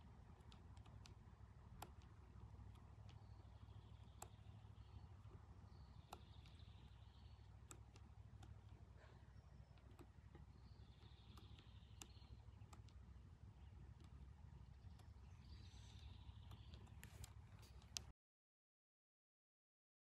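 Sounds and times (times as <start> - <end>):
distant bird chirps: 0.0 - 18.1
faint ticks: 0.0 - 18.1
low steady rumble: 0.0 - 18.1.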